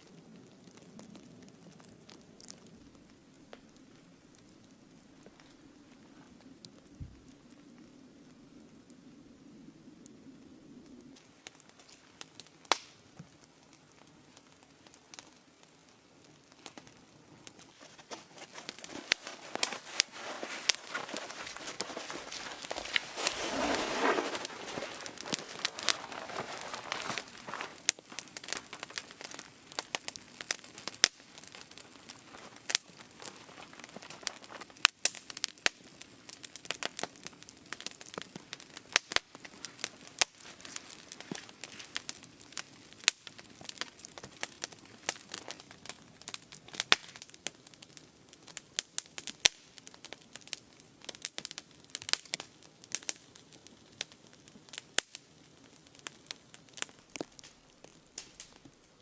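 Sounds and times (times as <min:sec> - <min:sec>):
faint steady hiss: 0:00.0 - 0:59.0
firewood crackling: 0:00.0 - 0:59.0.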